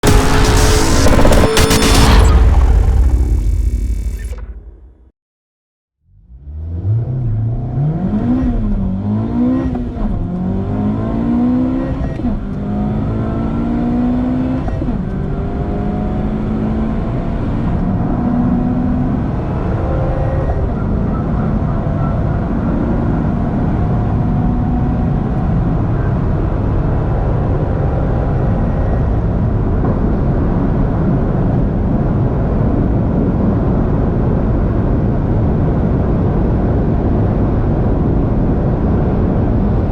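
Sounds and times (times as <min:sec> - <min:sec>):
car engine at full throttle: 0:00.0 - 0:05.0, 0:06.1 - 0:39.9
road and wind roar: 0:06.1 - 0:39.9.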